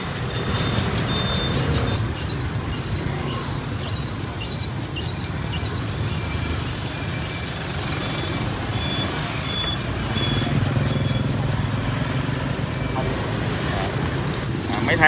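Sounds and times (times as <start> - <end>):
motorbikes and cars passing: 0.0 - 15.0.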